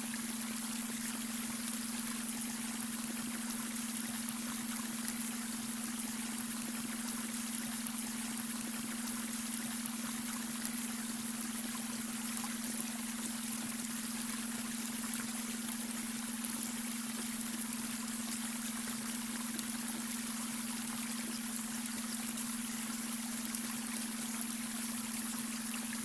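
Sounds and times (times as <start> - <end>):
brook water trickling over stones: 0.0 - 26.0.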